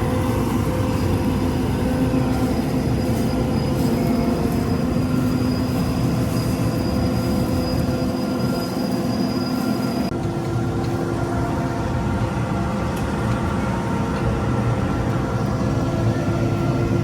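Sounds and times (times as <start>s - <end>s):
farm machinery drone: 0.0s - 17.0s
high machine whine: 0.0s - 17.0s.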